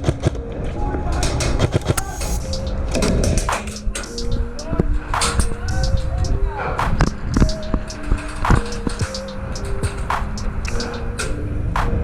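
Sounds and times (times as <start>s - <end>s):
held music notes: 0.4s - 12.0s
sharp percussive hits: 1.4s - 11.2s.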